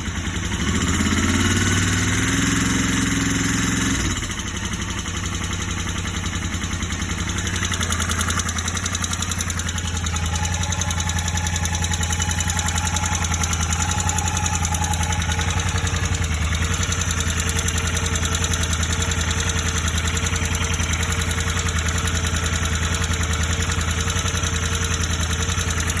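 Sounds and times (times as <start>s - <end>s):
motorcycle engine idling with knocking: 0.0s - 26.0s.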